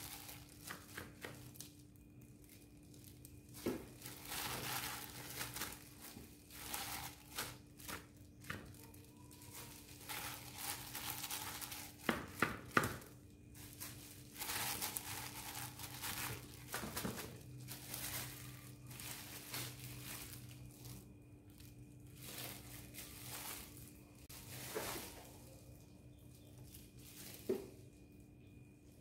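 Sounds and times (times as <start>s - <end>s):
faint steady hum: 0.0s - 29.0s
gloved hands rustling in flour: 0.0s - 29.0s.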